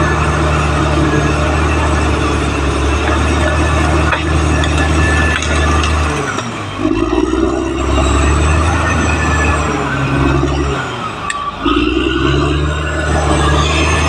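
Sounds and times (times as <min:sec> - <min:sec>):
bulldozer diesel engine under load: 0:00.0 - 0:14.0
metallic squeals from crawler tracks: 0:00.0 - 0:14.0.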